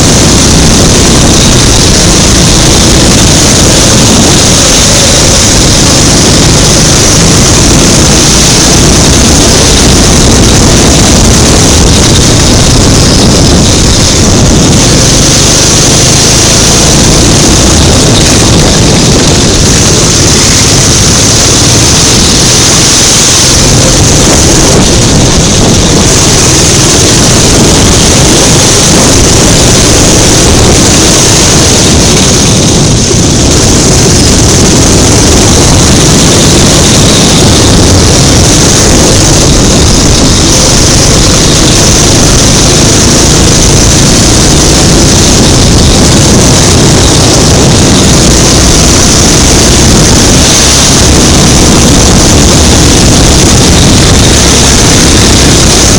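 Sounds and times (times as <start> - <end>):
go-kart engine running hard: 0.0 - 55.9.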